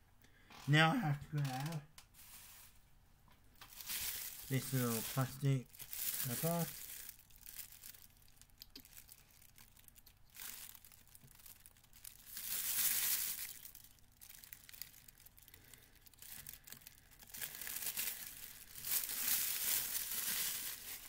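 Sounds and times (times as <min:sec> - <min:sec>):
plastic bag crinkling: 0:01.4 - 0:02.8, 0:03.6 - 0:21.0.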